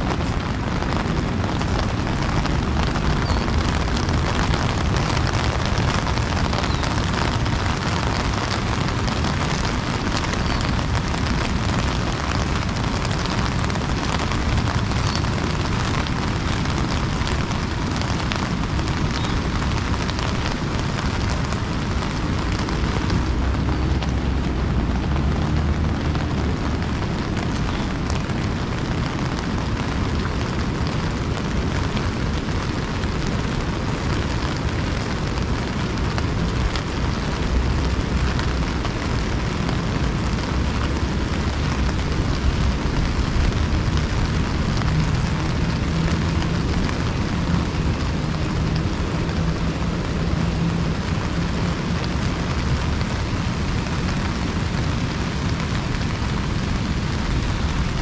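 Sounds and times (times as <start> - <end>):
rain drumming on an umbrella: 0.0 - 58.0.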